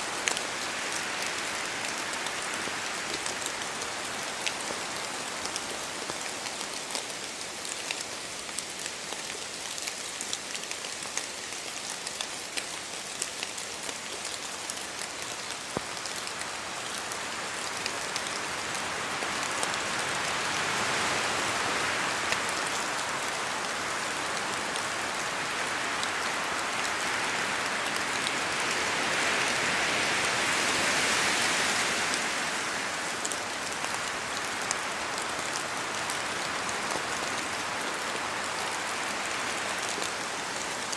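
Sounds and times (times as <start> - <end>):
rain dripping on leaves: 0.0 - 40.9
wind: 0.0 - 40.9.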